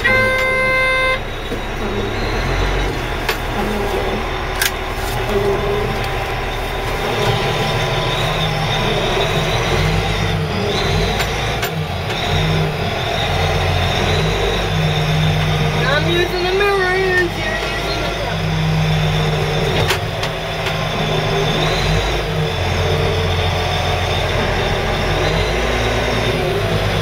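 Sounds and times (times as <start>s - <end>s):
wheel loader diesel engine running: 0.0s - 27.0s.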